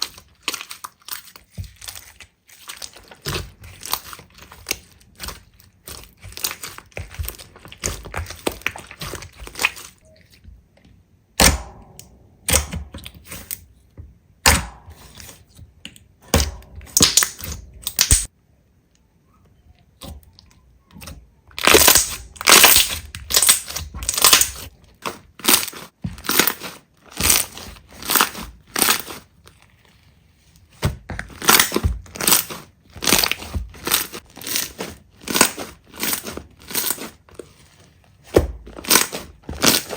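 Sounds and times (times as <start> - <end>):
slime squishing and crackling: 0.0 - 10.5, 14.4 - 18.3, 20.0 - 39.9.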